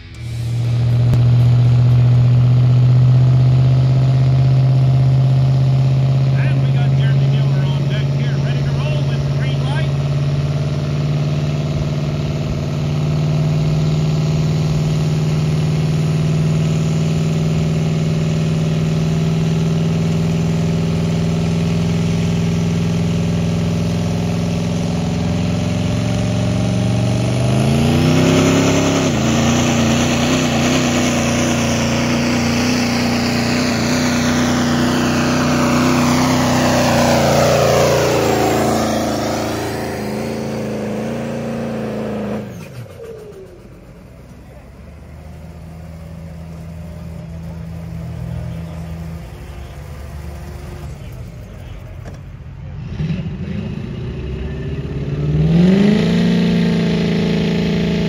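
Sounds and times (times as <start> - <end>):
diesel pickup engine idling: 0.0 - 52.8
engine revving under load: 0.0 - 58.0.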